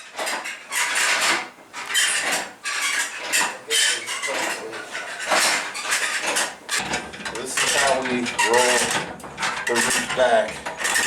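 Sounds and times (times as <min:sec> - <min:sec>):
metal clattering and rattling: 0:00.0 - 0:11.0.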